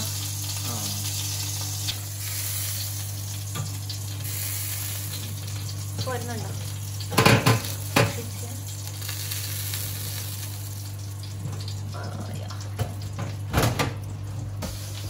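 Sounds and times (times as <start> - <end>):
roast sizzling and fat spitting: 0.0 - 13.1, 14.5 - 15.0.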